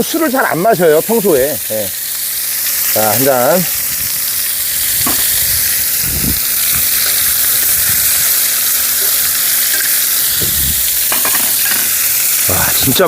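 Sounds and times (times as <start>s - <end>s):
meat sizzling: 0.0s - 13.0s.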